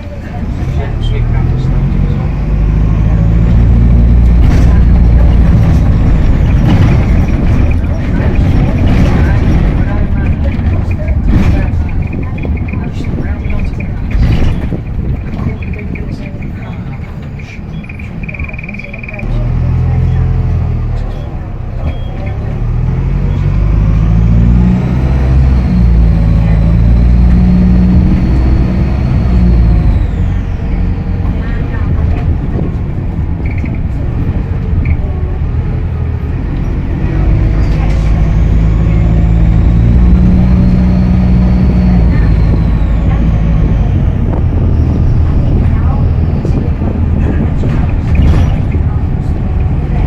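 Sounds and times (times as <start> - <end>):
bus diesel engine pulling: 0.0 - 50.0.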